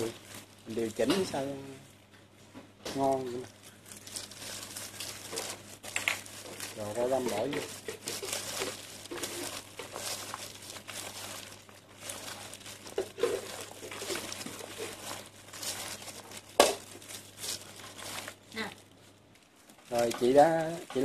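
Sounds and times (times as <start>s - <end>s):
plastic gloves crinkling: 0.0s - 21.0s.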